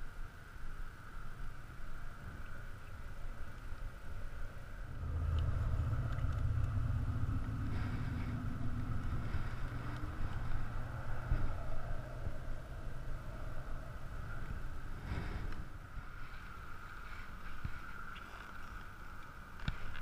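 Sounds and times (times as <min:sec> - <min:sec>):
engine rumble of passing motor: 0:01.1 - 0:20.0.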